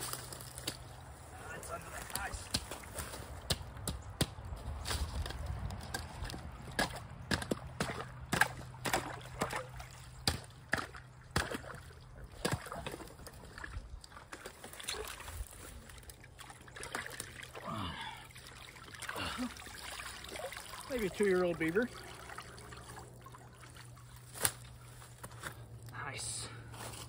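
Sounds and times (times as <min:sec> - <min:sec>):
water sloshing and splashing: 0:00.0 - 0:25.9.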